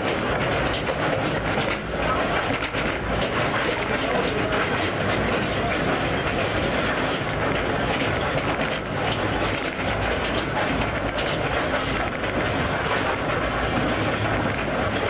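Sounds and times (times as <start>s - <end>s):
mine train cars rattling: 0.0s - 15.0s.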